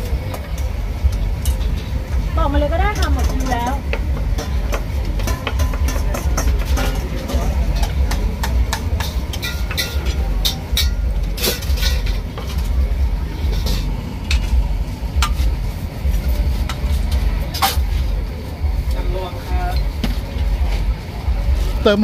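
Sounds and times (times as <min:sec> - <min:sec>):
utensils clinking on metal bowls: 0:00.0 - 0:18.1
steady low rumble: 0:00.0 - 0:22.0.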